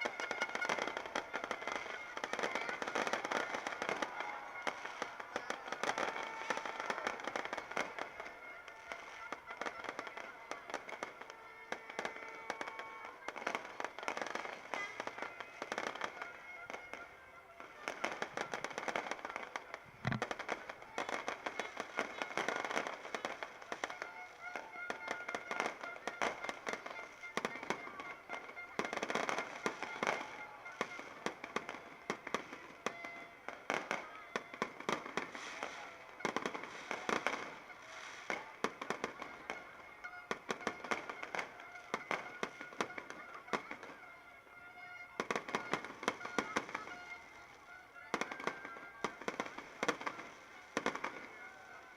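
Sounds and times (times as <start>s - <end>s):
fireworks popping and crackling: 0.0s - 51.9s.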